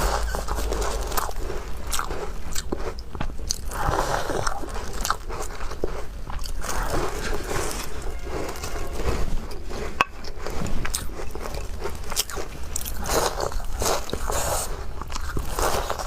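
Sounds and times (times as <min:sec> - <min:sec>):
chewing crunchy cookies: 0:00.0 - 0:16.0.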